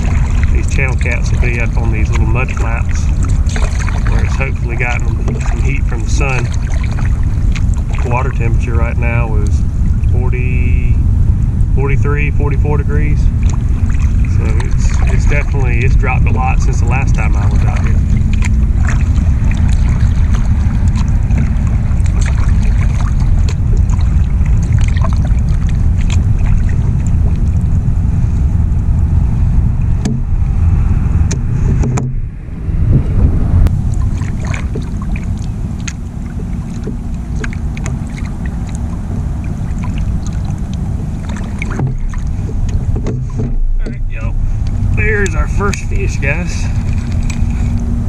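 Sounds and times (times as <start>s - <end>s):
small water splashes: 0.0s - 10.2s, 13.2s - 27.8s, 33.7s - 47.9s
paddle strokes: 0.0s - 10.3s, 13.2s - 28.5s, 31.2s - 32.2s, 33.6s - 48.0s
wind rumble on microphone: 0.0s - 48.0s.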